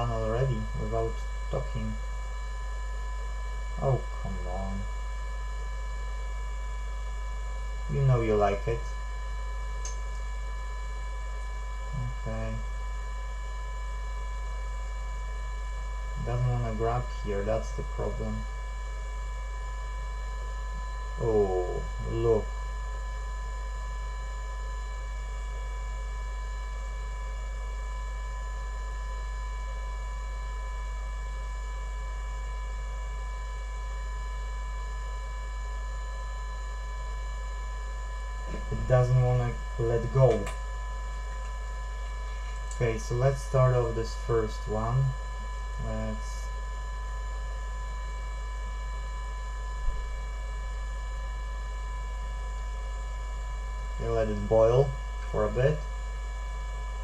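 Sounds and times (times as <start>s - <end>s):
electrical mains hum: 0.0s - 57.0s
thin high whine: 0.0s - 57.0s.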